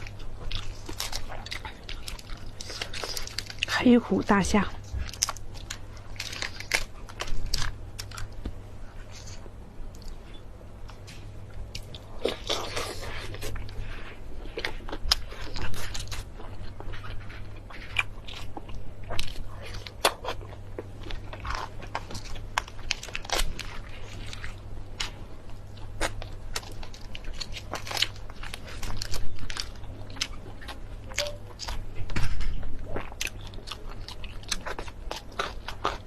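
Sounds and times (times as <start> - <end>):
crunching and chewing prawns: 0.0 - 36.0.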